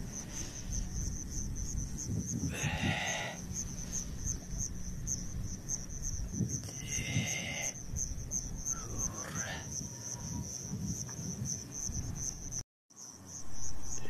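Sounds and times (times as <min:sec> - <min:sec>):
low rumble: 0:00.0 - 0:12.6
crickets chirping: 0:00.0 - 0:14.0.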